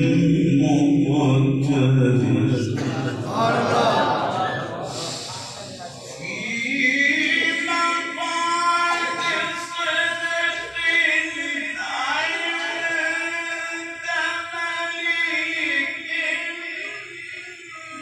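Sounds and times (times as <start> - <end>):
man reciting melodically: 0.0 - 18.0.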